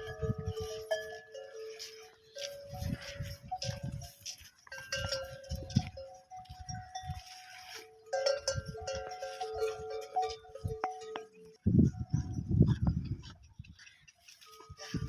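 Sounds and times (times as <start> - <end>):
livestock bells clanking: 0.0 - 15.0.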